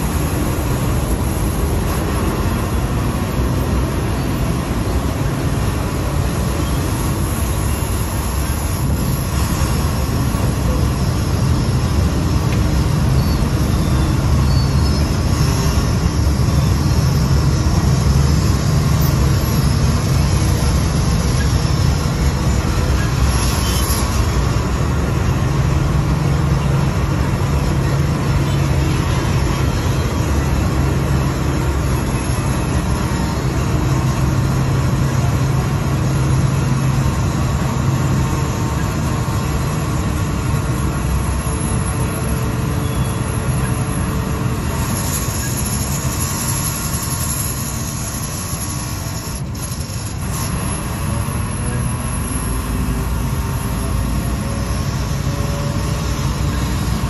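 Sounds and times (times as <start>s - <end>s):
ferry engine droning: 0.0s - 57.0s.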